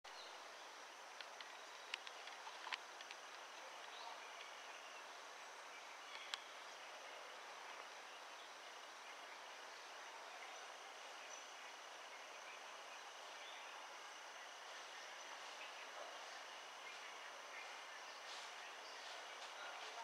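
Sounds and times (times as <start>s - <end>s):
faint high insect drone: 0.1s - 20.0s
steady hiss: 0.1s - 20.0s.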